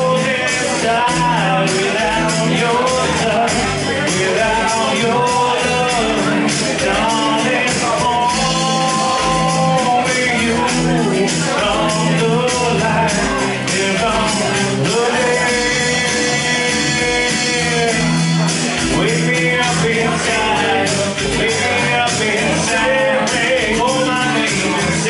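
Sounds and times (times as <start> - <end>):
man singing: 0.0 - 25.0
strummed acoustic guitar: 0.0 - 25.0.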